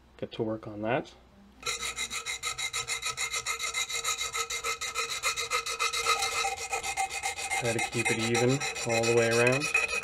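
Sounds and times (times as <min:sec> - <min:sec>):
metal file rasping: 0:01.6 - 0:10.0.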